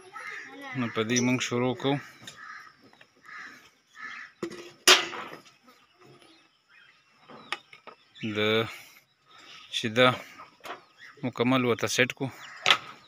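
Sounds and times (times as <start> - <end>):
harsh bird calls: 0.0 - 13.0.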